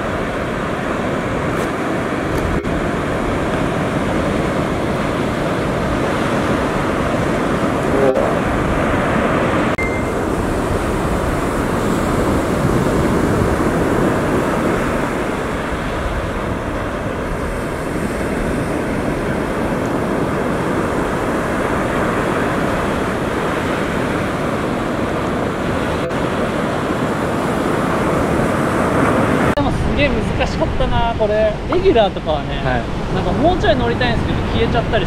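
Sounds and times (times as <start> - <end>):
small waves breaking: 0.0 - 29.6
wind on microphone: 0.0 - 35.0.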